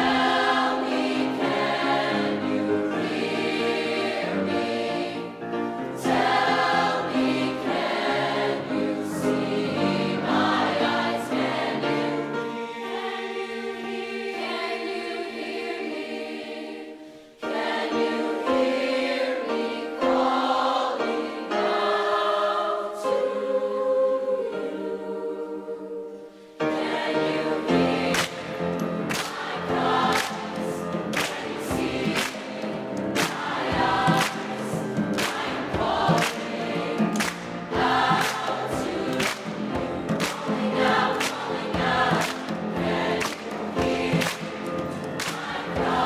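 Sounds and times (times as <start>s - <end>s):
piano accompaniment: 0.0s - 16.0s, 17.4s - 46.0s
choir singing in parts: 0.0s - 46.0s.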